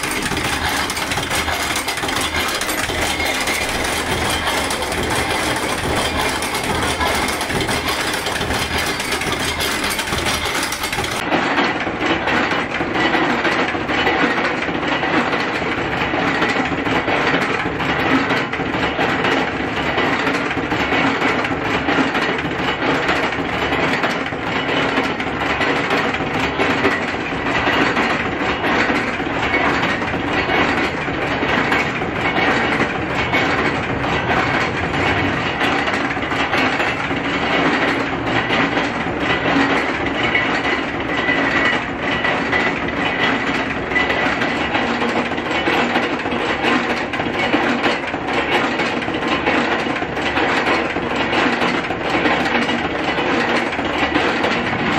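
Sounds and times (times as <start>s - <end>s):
metal workshop machinery rattling: 0.0s - 54.9s.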